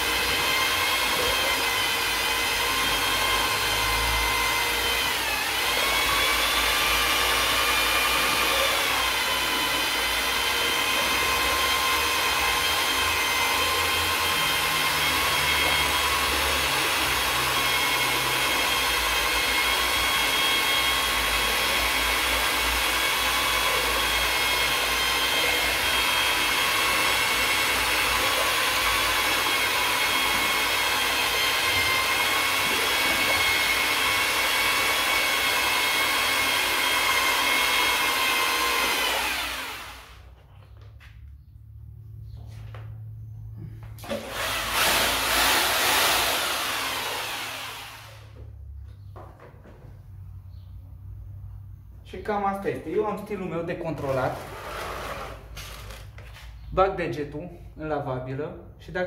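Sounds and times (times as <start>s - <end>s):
electric drill mixing paint: 0.0s - 41.0s, 43.6s - 49.0s, 52.3s - 56.7s.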